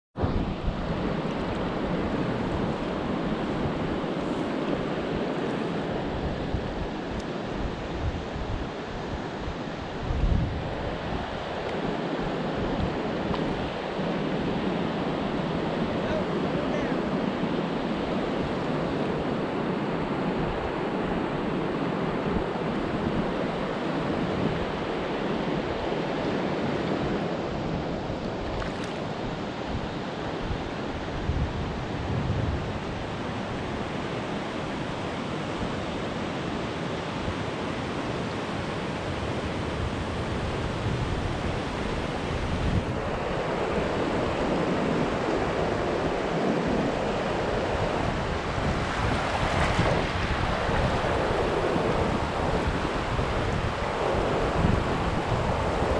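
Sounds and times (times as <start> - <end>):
river water rushing: 0.2 - 32.0, 32.6 - 55.9.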